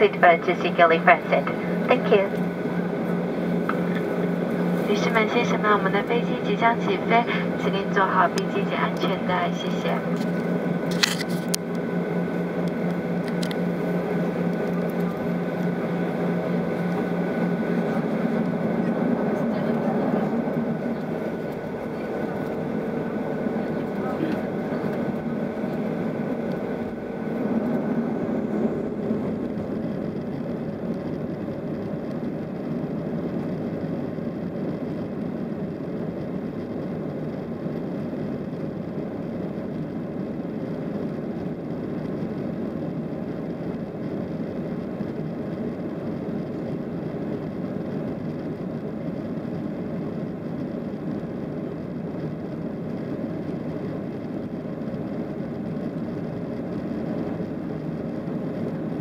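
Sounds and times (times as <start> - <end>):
jet engines at low thrust: 0.0 - 59.0.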